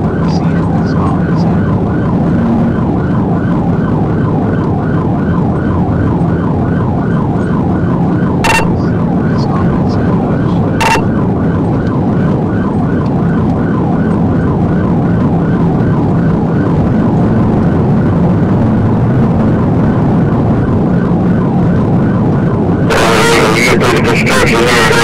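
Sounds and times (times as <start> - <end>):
police siren yelping: 0.0 - 17.9, 19.3 - 25.0
engine and road noise: 0.0 - 25.0.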